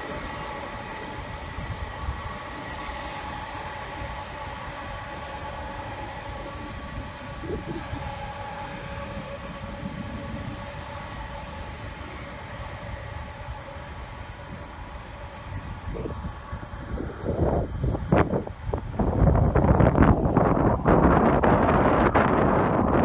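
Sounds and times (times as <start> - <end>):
jet engines whining: 0.0 - 23.0
wind buffeting microphone: 0.0 - 23.0.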